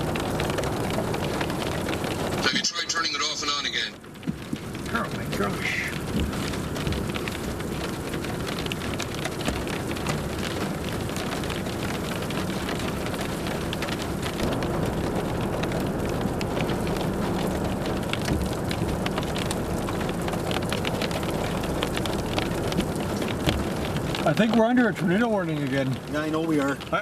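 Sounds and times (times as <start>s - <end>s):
rain pattering: 0.0s - 27.0s.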